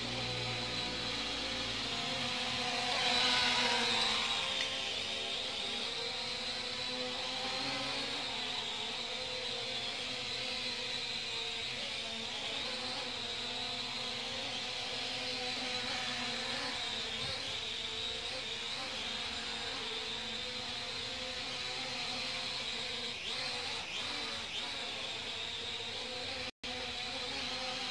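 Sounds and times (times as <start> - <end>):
drone propellers buzzing: 0.0 - 27.9.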